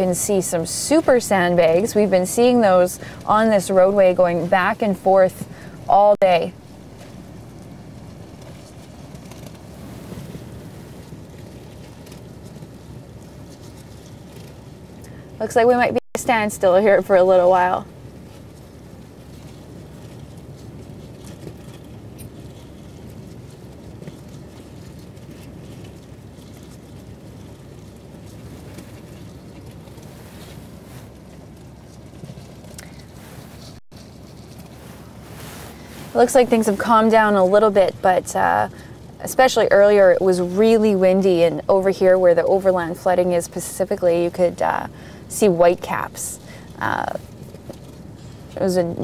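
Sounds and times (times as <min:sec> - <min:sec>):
vehicle idling: 0:00.0 - 0:49.0
wind noise: 0:00.0 - 0:49.0.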